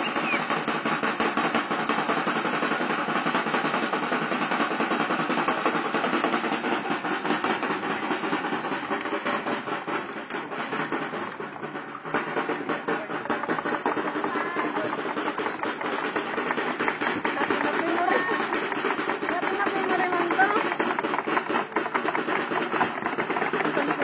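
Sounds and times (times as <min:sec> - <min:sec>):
snare drum roll: 0:00.0 - 0:24.0.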